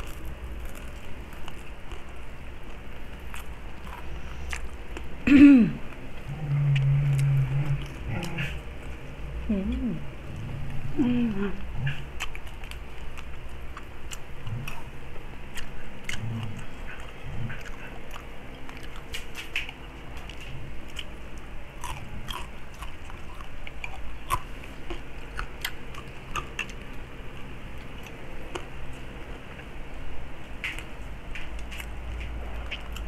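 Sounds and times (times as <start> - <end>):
chewing crispy crackling: 0.0 - 33.0
low steady hum: 0.0 - 33.0.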